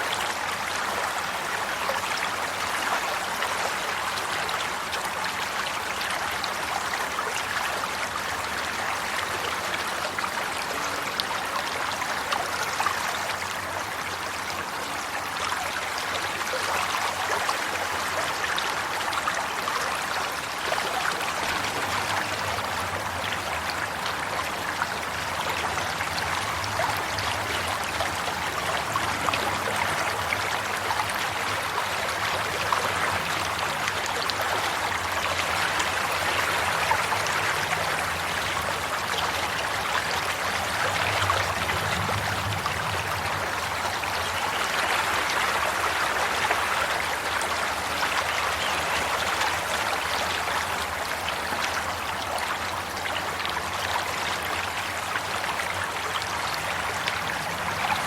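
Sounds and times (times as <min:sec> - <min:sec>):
running water flowing: 0:00.0 - 0:58.0.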